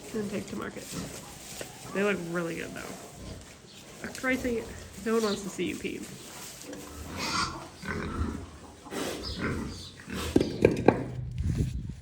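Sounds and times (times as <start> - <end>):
pigs grunting and snuffling: 0.0 - 11.3.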